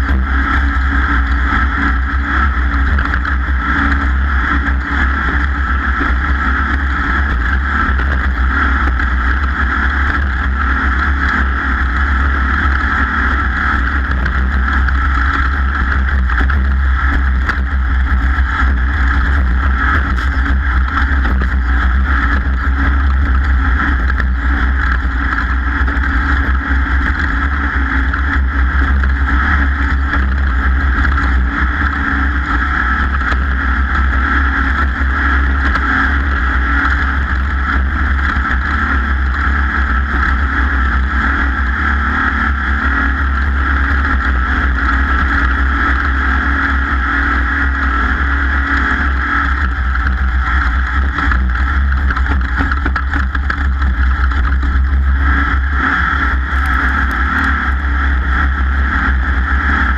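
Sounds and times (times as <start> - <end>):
off-road vehicle engine: 0.0 - 59.9
terrain noise: 0.0 - 59.9.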